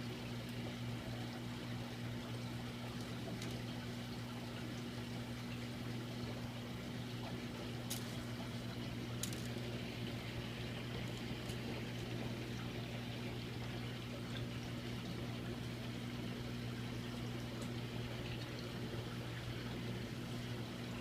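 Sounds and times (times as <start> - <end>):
aquarium pump hum: 0.0 - 21.0
water trickling and splashing: 0.0 - 21.0.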